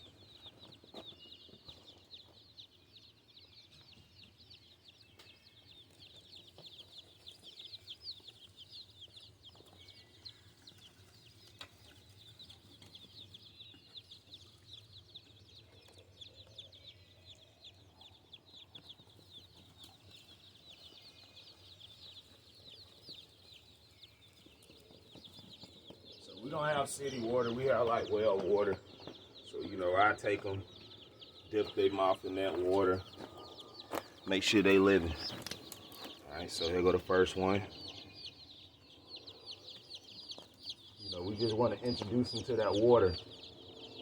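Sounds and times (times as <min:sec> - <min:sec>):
baby chicks peeping: 0:00.0 - 0:44.0.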